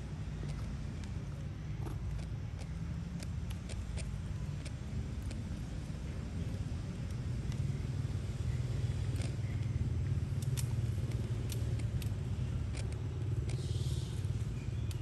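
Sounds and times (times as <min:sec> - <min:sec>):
light clicks and ticks: 0:00.4 - 0:15.0.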